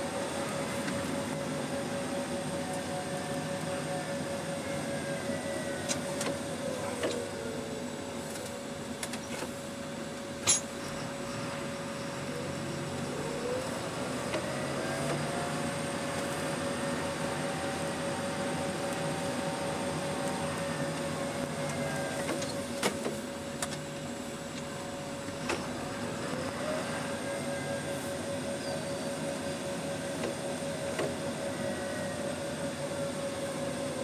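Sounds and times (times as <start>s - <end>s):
tractor engine with whine: 0.0s - 34.0s.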